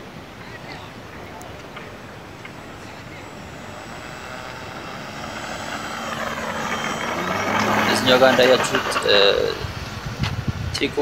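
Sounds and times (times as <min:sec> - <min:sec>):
model plane motor whining: 0:01.6 - 0:10.8.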